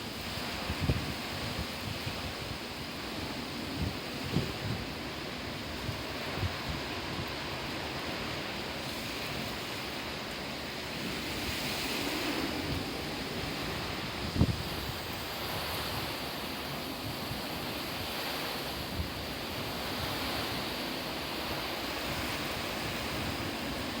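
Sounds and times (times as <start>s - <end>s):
wind and rain rushing: 0.0s - 24.0s.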